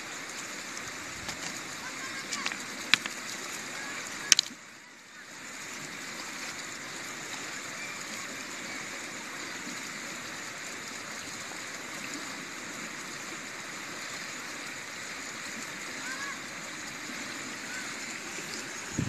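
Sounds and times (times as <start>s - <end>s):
river water rushing over stones: 0.0s - 19.0s.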